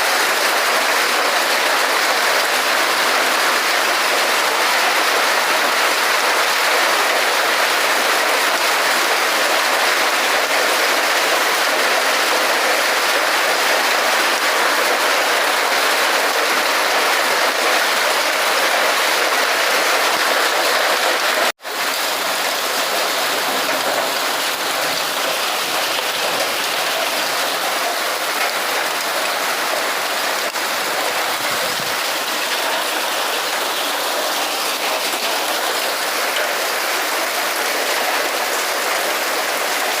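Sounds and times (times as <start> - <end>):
heavy rain and hail: 0.0 - 40.0.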